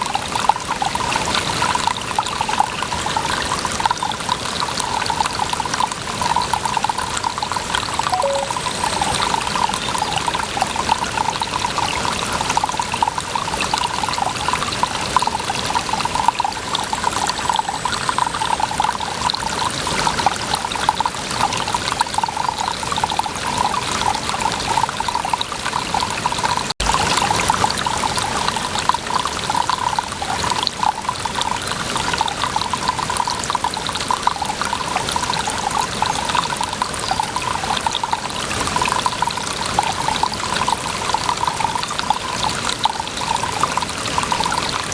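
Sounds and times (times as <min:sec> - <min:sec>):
water pouring and trickling: 0:00.0 - 0:44.9.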